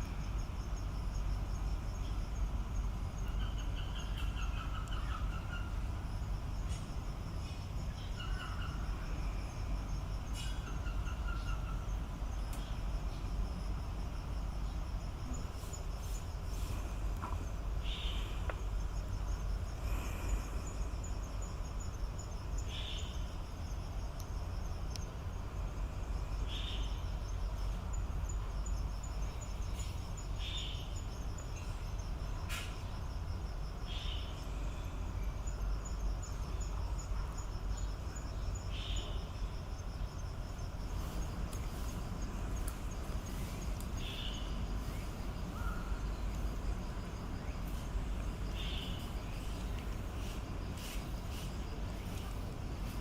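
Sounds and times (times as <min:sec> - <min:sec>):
insects trilling: 0:00.0 - 0:53.0
low steady rumble: 0:00.0 - 0:53.0.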